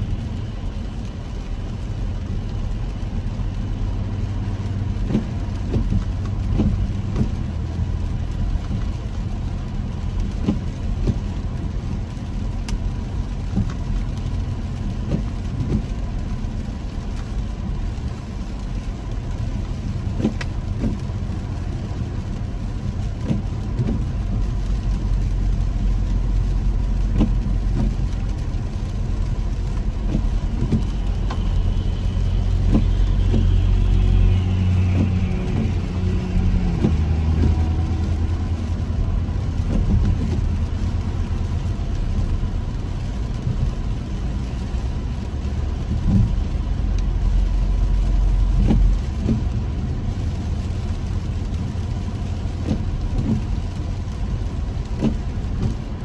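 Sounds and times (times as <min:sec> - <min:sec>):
engine and tyres on wet road: 0:00.0 - 0:56.0
raindrops tapping windshield: 0:00.0 - 0:56.0.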